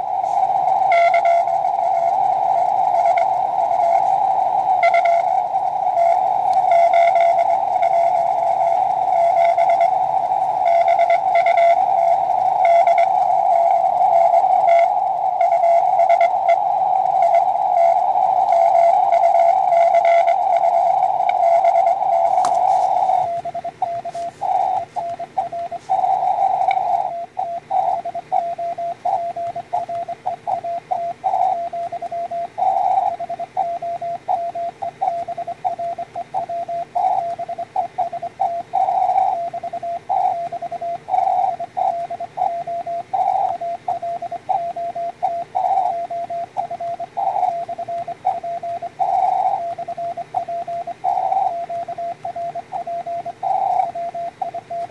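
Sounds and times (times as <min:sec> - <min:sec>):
morse code tones: 0:00.0 - 0:54.9.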